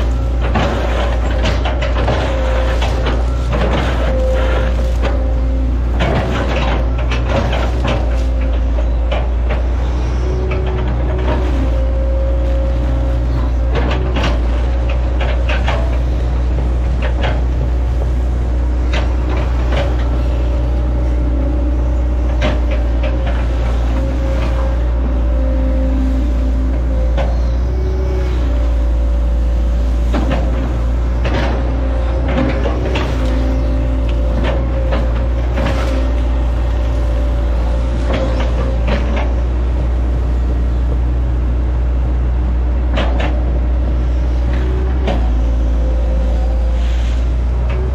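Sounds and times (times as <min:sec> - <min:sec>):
trees cracking and knocking: 0:00.0 - 0:41.5
excavator diesel engine running: 0:00.0 - 0:47.9
hydraulic whine: 0:00.0 - 0:47.9.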